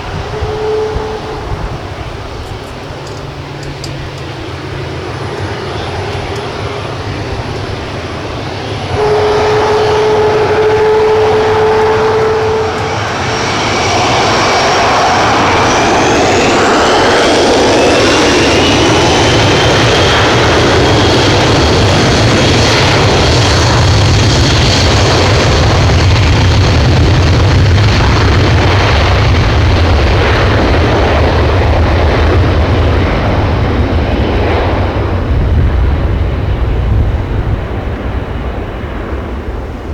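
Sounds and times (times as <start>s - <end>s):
heavy low rumble: 0.0s - 39.9s
jet engines whining: 0.0s - 39.9s.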